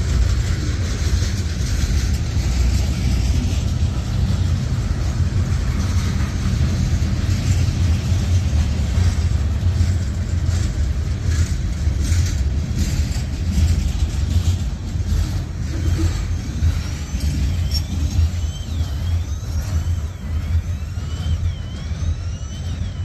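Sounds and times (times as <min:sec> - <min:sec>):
train clatter bursts: 0:00.0 - 0:23.0
train wheels rumbling on rails: 0:00.0 - 0:23.0.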